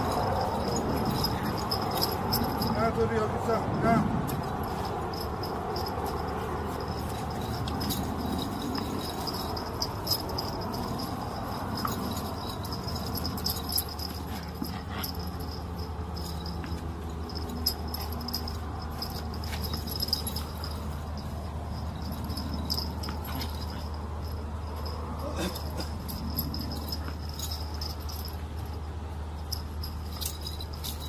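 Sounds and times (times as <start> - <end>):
dogs playing: 0.0 - 2.8, 3.7 - 31.0.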